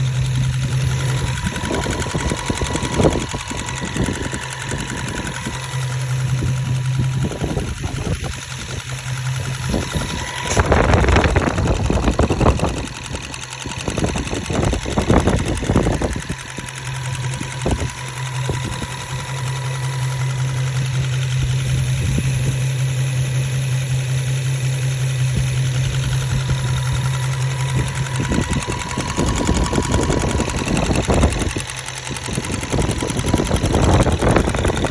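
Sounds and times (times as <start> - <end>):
car engine humming: 0.0 - 34.9
engine ticking: 0.0 - 34.9.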